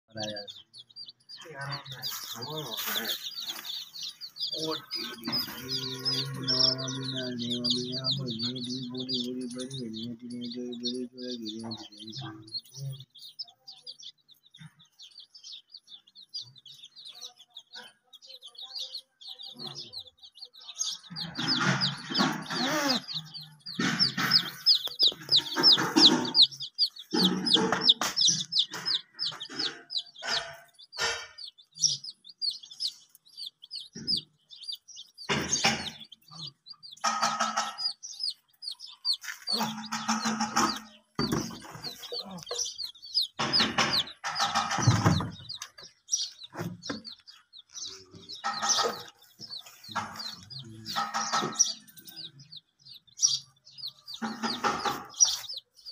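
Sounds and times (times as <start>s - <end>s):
baby chicks peeping: 0.0s - 55.9s
chicken calls: 0.1s - 55.9s.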